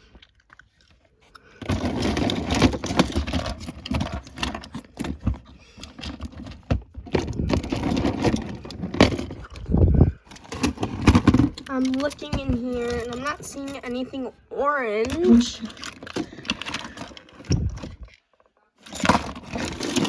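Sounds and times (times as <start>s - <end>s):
plastic toys clattering and rustling: 0.0s - 20.0s.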